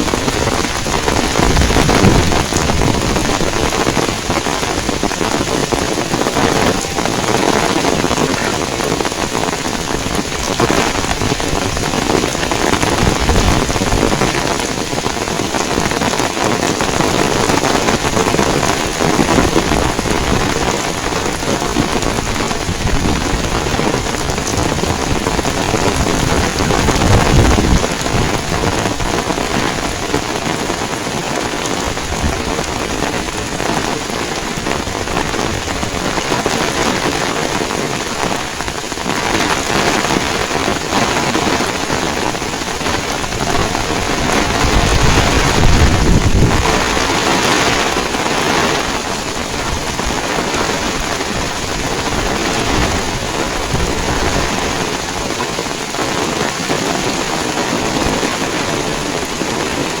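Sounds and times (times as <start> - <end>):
heavy rain pattering: 0.0 - 60.0.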